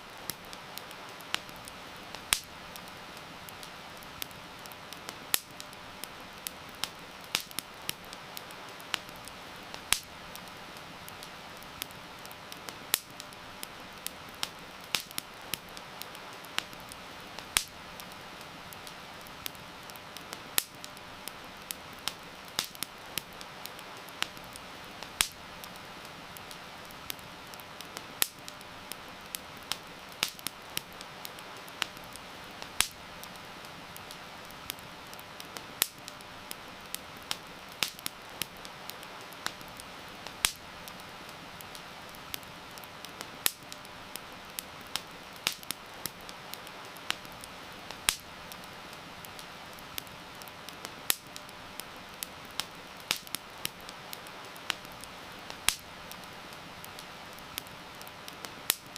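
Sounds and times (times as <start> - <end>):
campfire crackling: 0.0 - 58.9
heavy rain hiss: 0.0 - 58.9.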